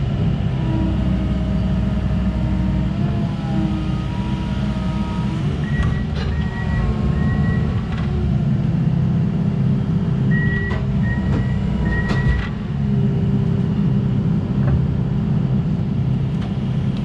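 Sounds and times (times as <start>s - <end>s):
diesel engine rumble: 0.0s - 17.0s.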